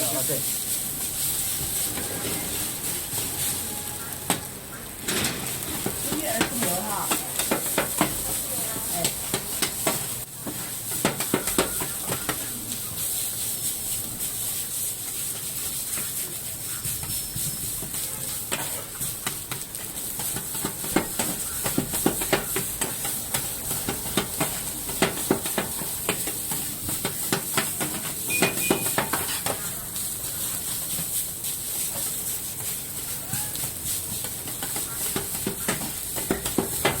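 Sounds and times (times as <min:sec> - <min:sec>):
rice sizzling on a griddle: 0:00.0 - 0:37.0.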